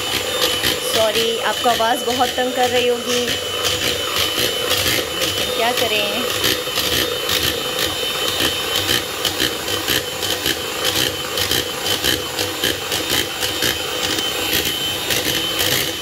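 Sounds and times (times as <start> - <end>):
beaters clicking on bowl: 0.0 - 16.0
electric hand mixer whirring: 0.0 - 16.0.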